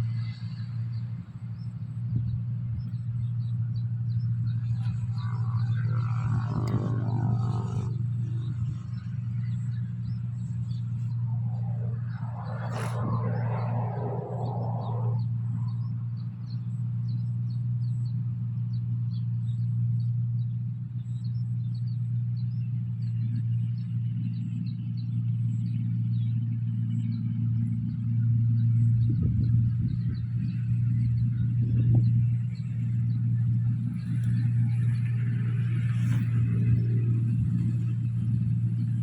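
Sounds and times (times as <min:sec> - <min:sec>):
combine harvester engine droning: 0:00.0 - 0:39.0.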